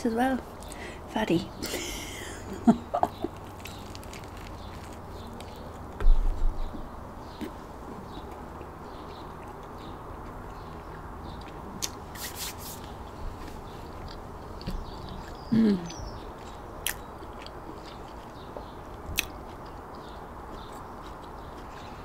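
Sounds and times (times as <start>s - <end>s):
chewing crusty bread: 2.3s - 22.0s.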